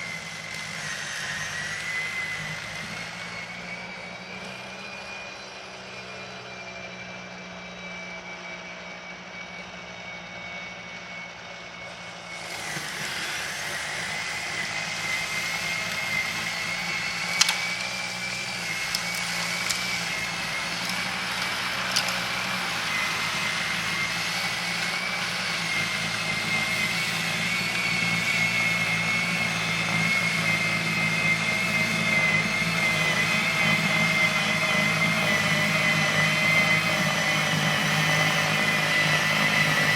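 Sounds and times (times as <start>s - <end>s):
snow blower high whine: 0.0s - 39.9s.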